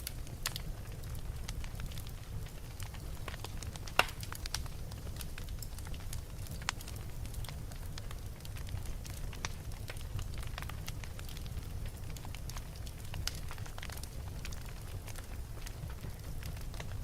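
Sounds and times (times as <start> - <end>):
wood fire crackling in a fireplace: 0.0 - 17.0.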